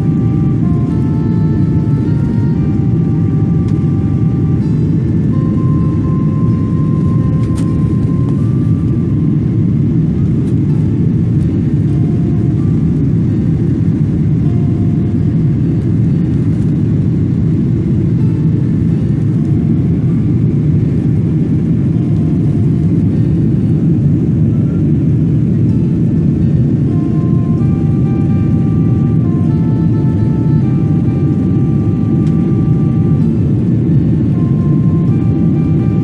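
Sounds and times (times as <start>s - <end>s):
jet engine rumble in cabin: 0.0s - 36.0s.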